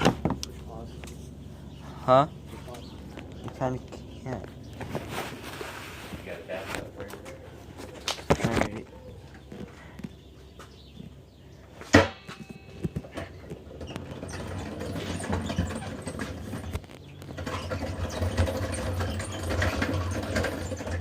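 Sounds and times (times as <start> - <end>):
minibike engine rattling: 0.0 - 21.0.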